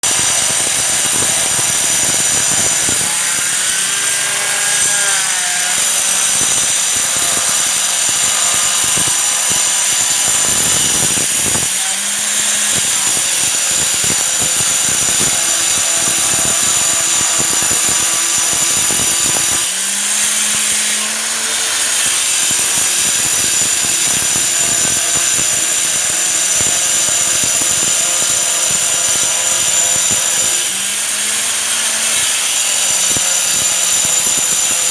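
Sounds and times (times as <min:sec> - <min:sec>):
stone cutting machine whining: 0:00.0 - 0:34.9.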